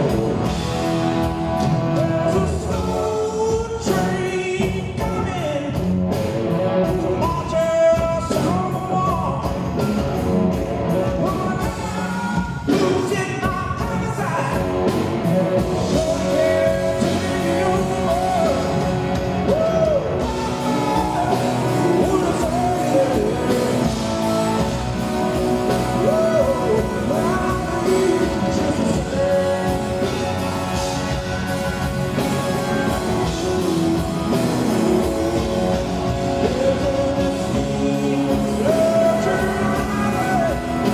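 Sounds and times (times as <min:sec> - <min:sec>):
male lead vocal: 0:00.0 - 0:10.0, 0:10.9 - 0:40.9
electric guitar: 0:00.0 - 0:40.9
live rock band playing: 0:00.0 - 0:40.9.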